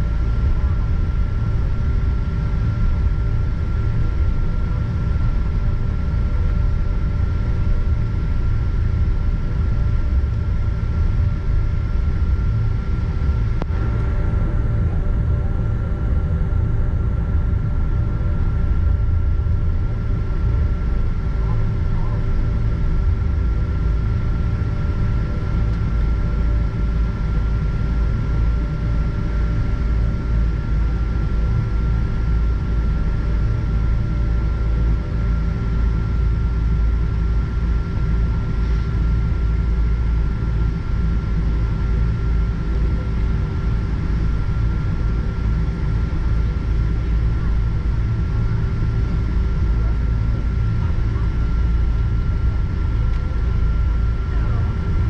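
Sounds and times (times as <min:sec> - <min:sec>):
airplane cabin rumble: 0:00.0 - 0:55.0
jet engines whining at idle: 0:00.0 - 0:55.0.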